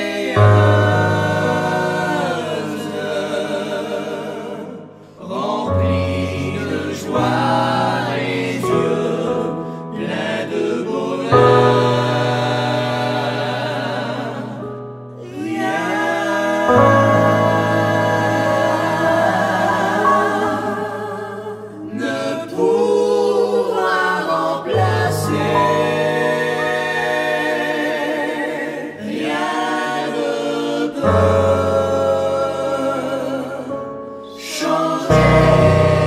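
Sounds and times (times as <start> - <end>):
choir singing a hymn: 0.0 - 36.0.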